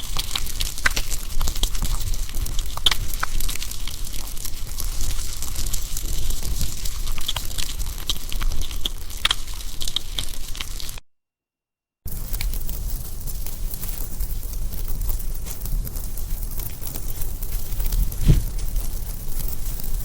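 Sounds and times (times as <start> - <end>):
campfire crackling and popping: 0.0 - 11.0, 12.1 - 20.0.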